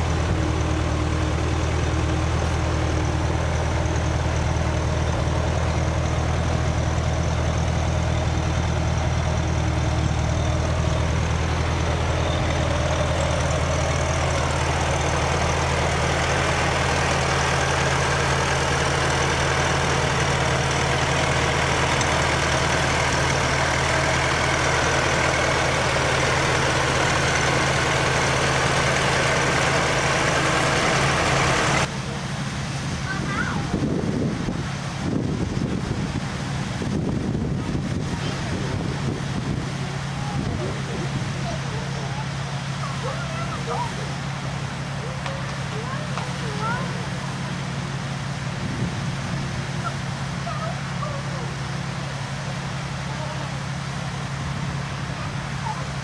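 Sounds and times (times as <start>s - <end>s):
fire truck engine running: 0.0s - 56.0s.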